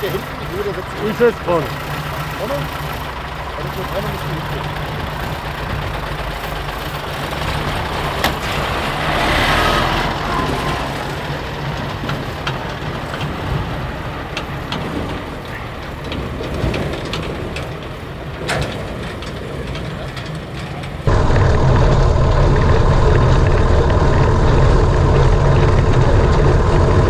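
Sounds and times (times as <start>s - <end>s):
diesel truck engine rumbling: 0.0s - 27.0s.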